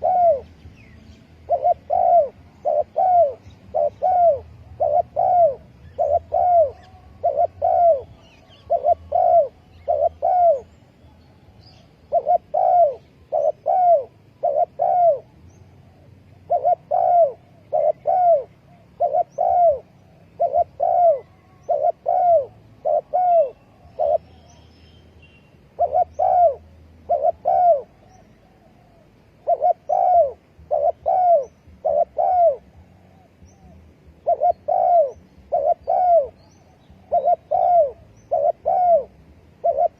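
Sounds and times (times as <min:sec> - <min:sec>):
dove cooing: 0:00.0 - 0:00.6, 0:01.3 - 0:10.8, 0:12.0 - 0:24.7, 0:25.6 - 0:39.9.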